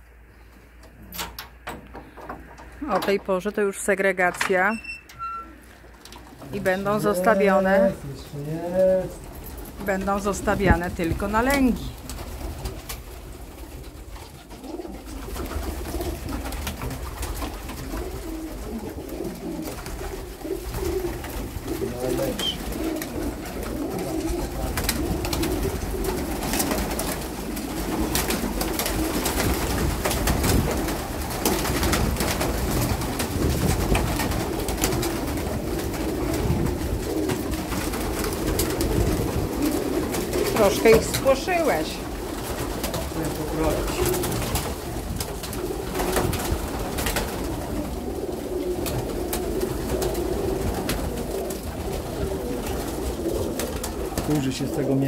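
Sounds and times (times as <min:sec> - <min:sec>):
pigeons cooing: 0:05.4 - 0:55.0
wings flapping and clapping: 0:05.9 - 0:55.0.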